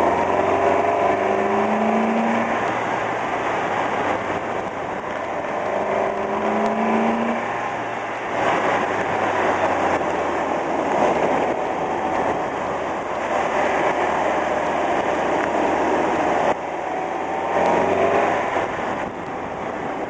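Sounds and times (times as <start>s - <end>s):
car engine: 0.0s - 20.0s
tyre and road noise: 0.0s - 20.0s.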